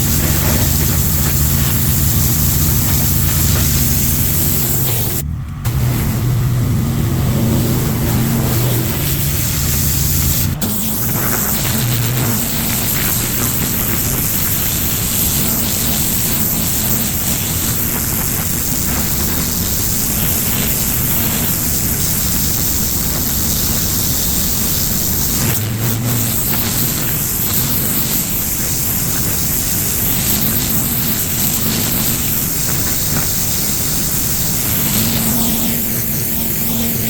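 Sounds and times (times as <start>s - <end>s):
low engine drone: 0.0s - 37.0s
pressure washer spray hissing: 0.0s - 37.0s.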